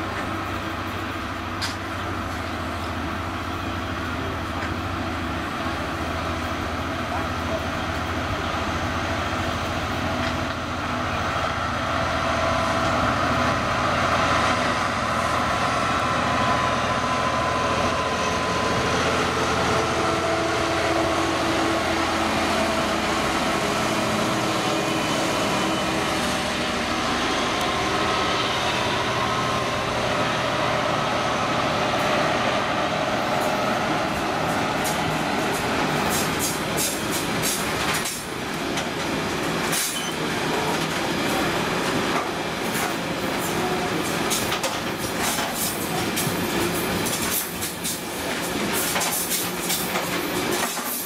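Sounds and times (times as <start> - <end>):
diesel locomotive engine: 0.0 - 51.0
train wheels on rails: 0.0 - 51.0.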